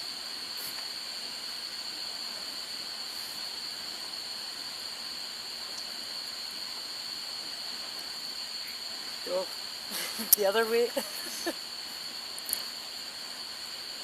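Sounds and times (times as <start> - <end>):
background hiss: 0.0 - 14.0
insect chorus chirring: 0.0 - 14.0.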